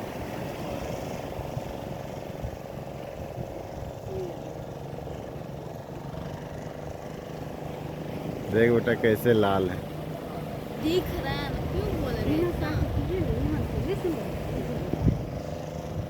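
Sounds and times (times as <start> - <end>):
engine hum: 0.0 - 16.0
outdoor noise: 0.0 - 16.0.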